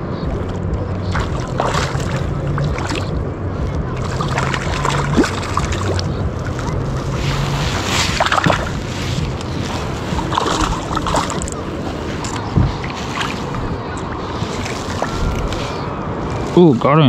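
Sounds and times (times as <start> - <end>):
wind buffeting microphone: 0.0 - 17.0
fish splashing in water: 0.4 - 16.6.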